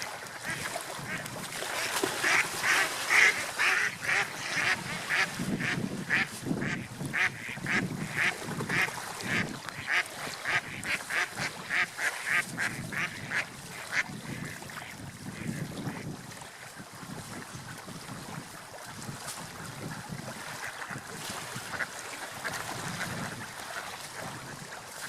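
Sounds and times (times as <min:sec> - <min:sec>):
ducks quacking: 0:00.0 - 0:16.0, 0:19.8 - 0:25.0.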